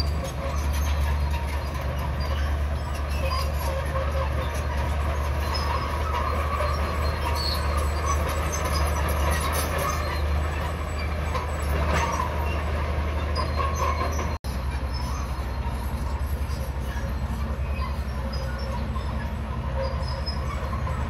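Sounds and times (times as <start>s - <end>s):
bulldozer diesel engine under load: 0.0s - 21.0s
steel tracks rattling: 0.0s - 21.0s.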